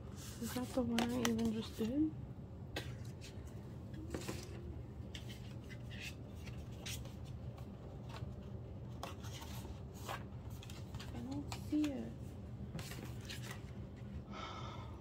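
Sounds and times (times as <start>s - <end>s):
card and plastic rustling: 0.1s - 2.1s, 2.7s - 14.2s.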